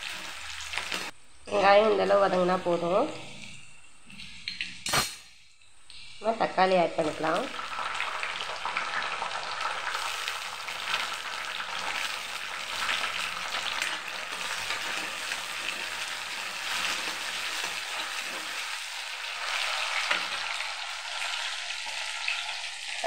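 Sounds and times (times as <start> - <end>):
food sizzling in hot oil: 0.0 - 1.2, 5.7 - 23.0.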